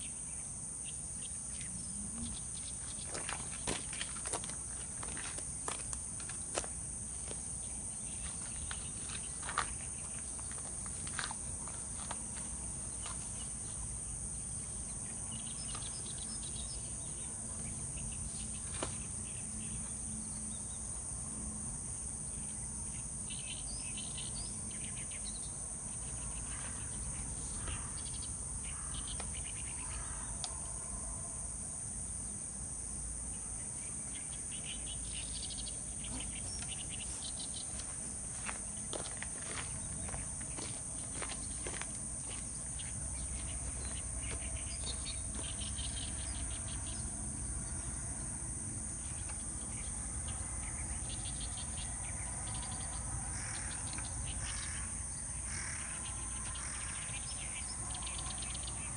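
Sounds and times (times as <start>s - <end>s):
high-pitched insect chorus: 0.0s - 58.9s
insect chirps: 0.0s - 58.9s.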